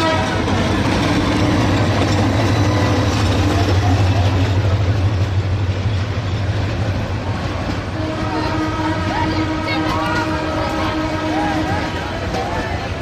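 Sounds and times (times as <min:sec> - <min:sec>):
moving train noise: 0:00.0 - 0:13.0
train engine hum: 0:00.0 - 0:13.0.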